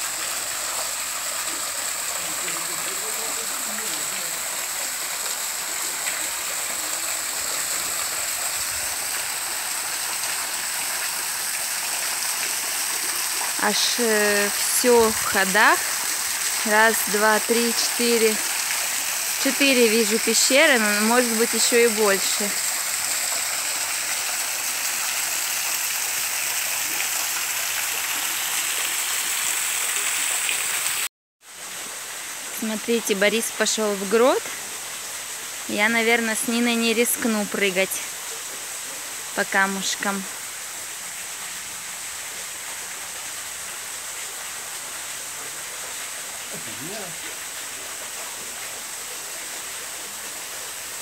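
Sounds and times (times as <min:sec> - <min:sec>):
small waterfall splashing into pool: 0:00.0 - 0:51.0.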